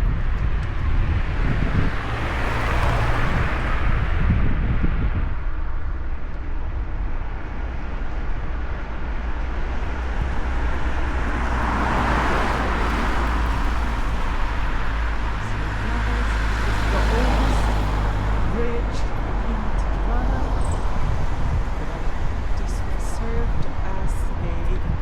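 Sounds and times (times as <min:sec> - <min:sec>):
cars passing by: 0:00.0 - 0:25.0
low engine hum: 0:00.0 - 0:25.0.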